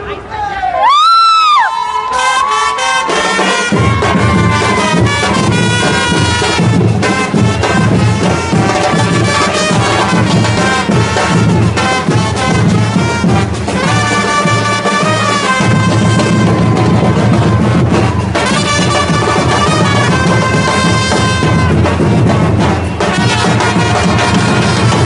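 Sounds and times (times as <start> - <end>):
trumpets playing melody: 2.1 - 25.0
bass drums beating: 3.0 - 25.0.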